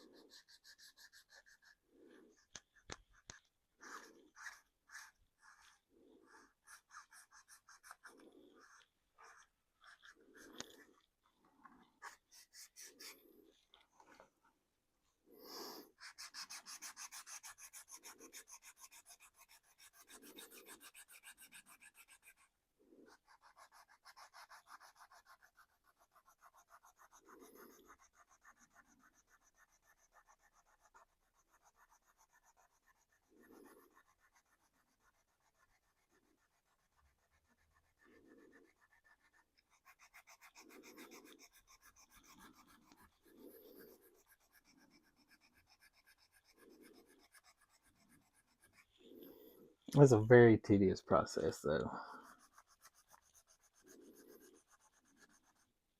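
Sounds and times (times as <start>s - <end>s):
sandpaper rubbing on plastic: 0.0s - 11.1s, 12.0s - 13.7s, 16.0s - 22.5s, 23.1s - 49.0s, 52.1s - 55.7s.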